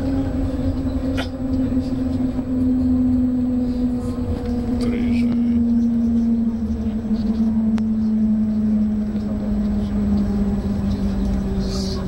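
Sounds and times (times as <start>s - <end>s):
low running rumble: 0.0s - 12.0s
train electric drive hum: 0.0s - 12.0s.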